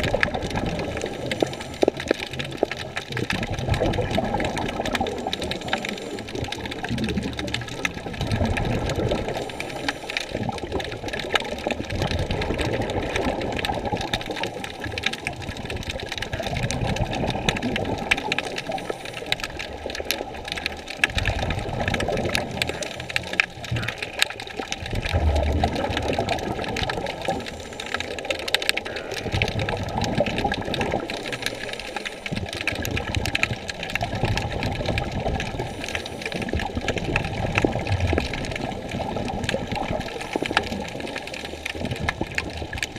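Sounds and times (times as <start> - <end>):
muffled underwater rushing: 0.0 - 42.9
small clicks and crackles: 0.0 - 42.9.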